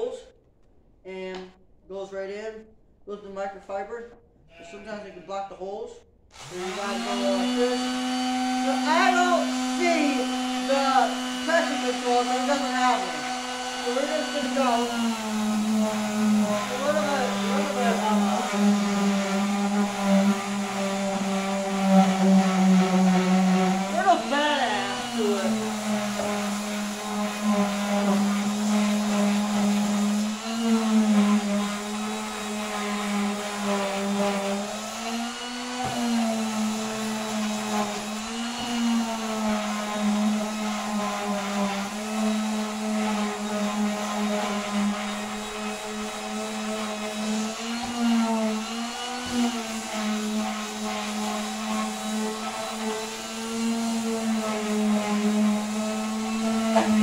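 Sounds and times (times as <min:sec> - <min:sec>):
electric sander on wood: 0:06.3 - 0:57.0.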